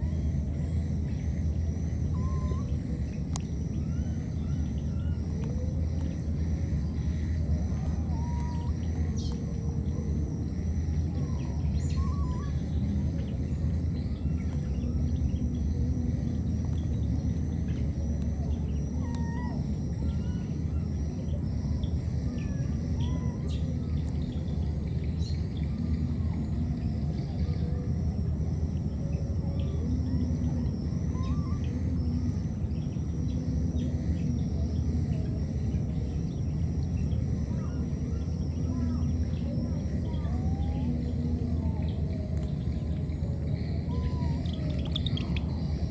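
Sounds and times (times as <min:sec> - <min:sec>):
pulsing insect chorus: 0:00.0 - 0:45.9
steady low rumble: 0:00.0 - 0:45.9.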